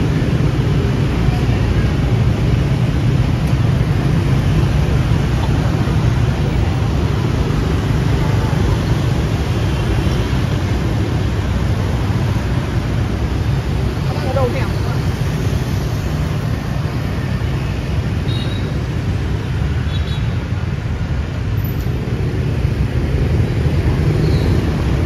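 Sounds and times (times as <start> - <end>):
city street traffic hum: 0.0 - 25.0.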